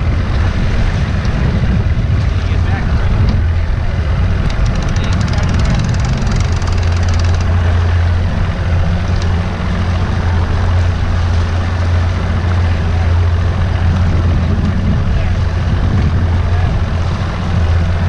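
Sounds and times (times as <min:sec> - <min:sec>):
boat engine droning: 0:00.0 - 0:18.0
choppy water: 0:00.0 - 0:18.0.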